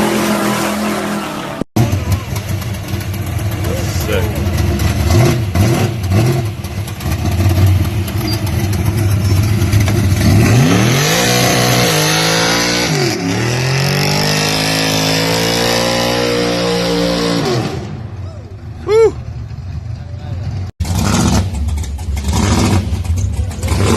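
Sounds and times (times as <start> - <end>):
car engine rumbling and accelerating: 0.0 - 23.9.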